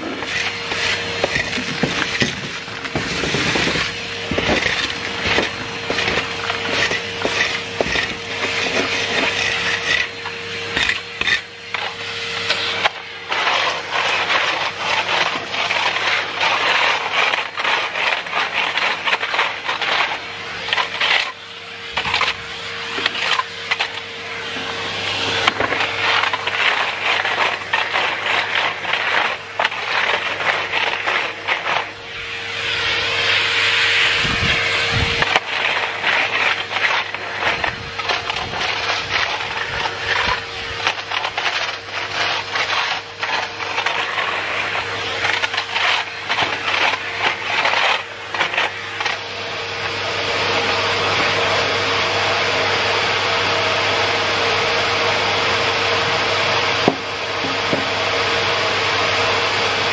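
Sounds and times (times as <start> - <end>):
vacuum cleaner motor whine: 0.0 - 59.9
vacuum scraping grit on concrete: 0.0 - 59.9.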